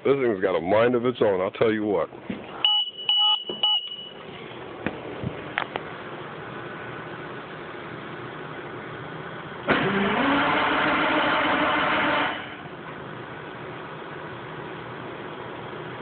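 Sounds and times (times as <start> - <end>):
diesel engine cranking: 2.1 - 16.0.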